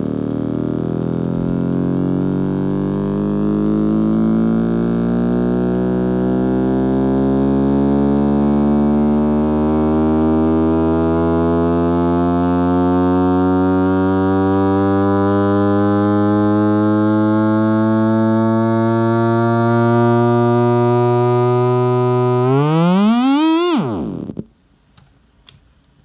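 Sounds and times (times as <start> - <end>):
buzzy test tone from speaker: 0.0 - 24.5.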